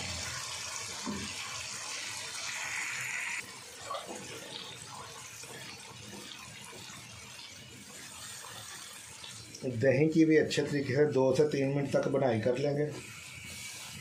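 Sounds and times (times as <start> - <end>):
masala sizzling in a pan: 0.0 - 14.0.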